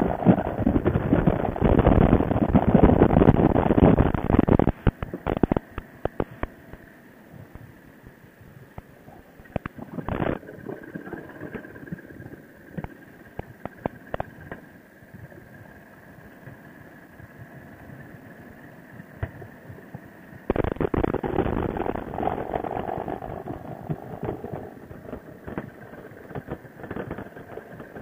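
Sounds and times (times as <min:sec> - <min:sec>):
wind noise: 0:00.0 - 0:28.0.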